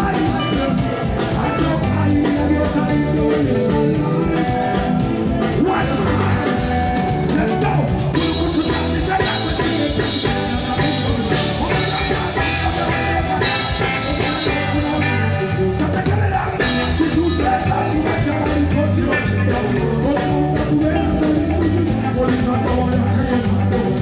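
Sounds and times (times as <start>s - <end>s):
band playing steady beat: 0.0s - 24.0s.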